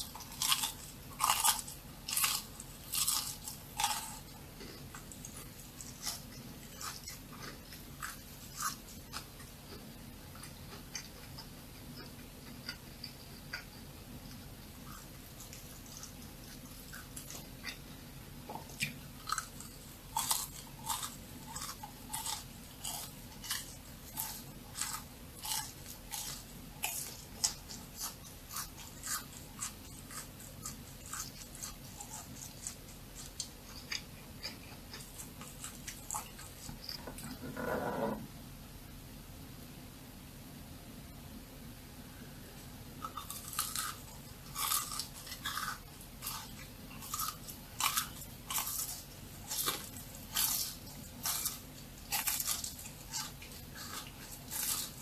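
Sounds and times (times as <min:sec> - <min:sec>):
crunchy eating and chewing: 0:00.0 - 0:38.1, 0:42.5 - 0:55.0.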